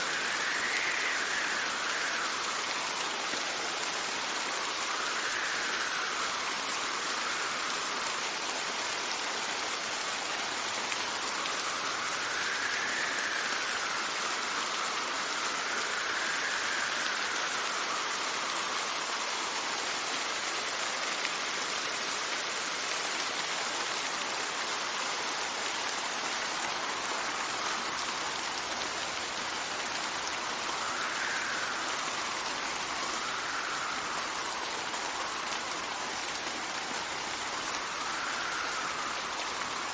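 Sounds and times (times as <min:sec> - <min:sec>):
steady rain: 0:00.0 - 0:39.9
wind gusts: 0:00.0 - 0:39.9.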